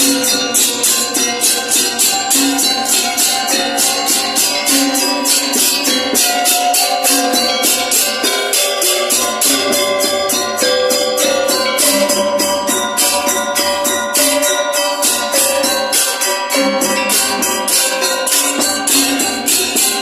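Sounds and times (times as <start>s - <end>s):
cymbal strokes: 0.0s - 20.0s
metallophones and gongs ringing: 0.0s - 20.0s.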